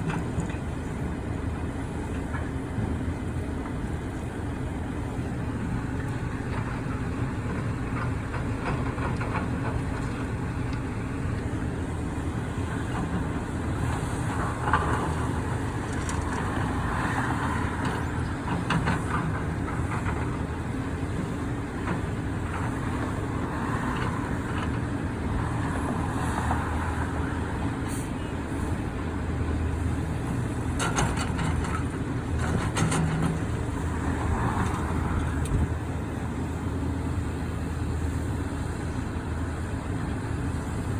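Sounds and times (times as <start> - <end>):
diesel machinery running: 0.0 - 40.9.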